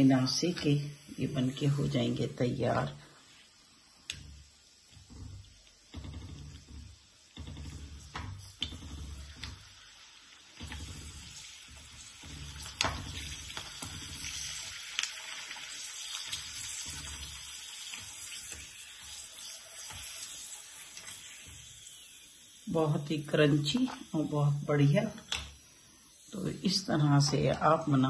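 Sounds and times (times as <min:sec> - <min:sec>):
deep-frying sizzle with pops: 0:00.0 - 0:28.0.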